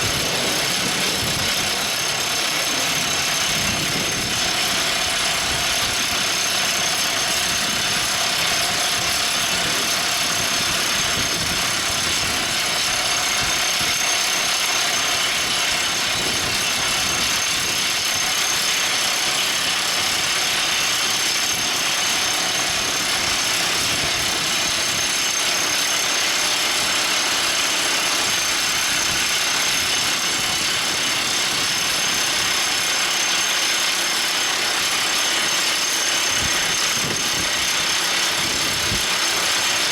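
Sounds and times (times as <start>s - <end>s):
drill rig running with hiss: 0.0s - 39.9s.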